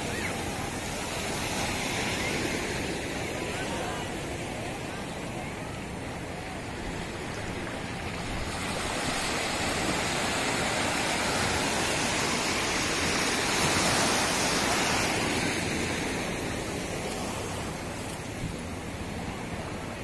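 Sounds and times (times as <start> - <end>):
seawater rushing and splashing: 0.0 - 20.0.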